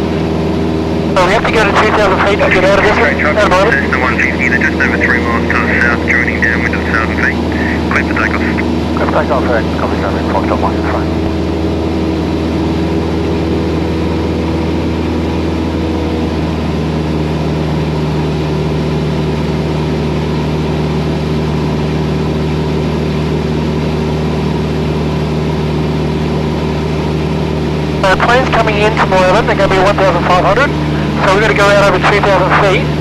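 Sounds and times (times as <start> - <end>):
aircraft engine and propeller droning: 0.0 - 33.0.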